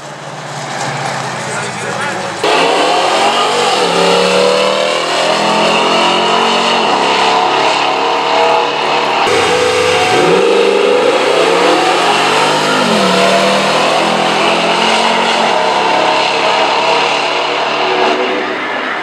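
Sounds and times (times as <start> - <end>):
cars accelerating hard: 0.0 - 19.0.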